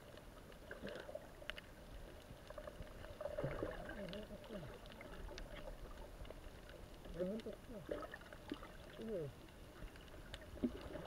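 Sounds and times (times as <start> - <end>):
muffled underwater rumble: 0.0 - 11.0
small clicks and crackles: 0.0 - 11.0.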